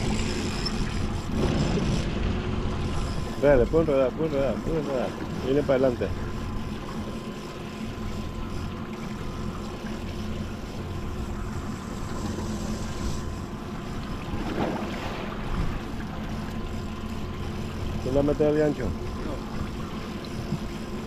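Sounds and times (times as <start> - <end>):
outboard motor running: 0.0 - 21.0
water washing around hull: 0.0 - 21.0.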